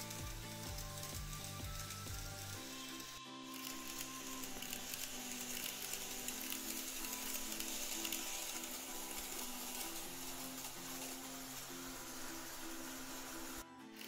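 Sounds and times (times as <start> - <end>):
model train running on track: 0.0 - 14.0
soft background music: 0.0 - 14.0.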